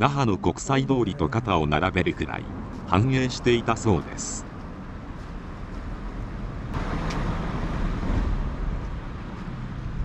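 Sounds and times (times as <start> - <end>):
traffic rumble: 0.0 - 10.0
vehicle passing: 1.3 - 10.0.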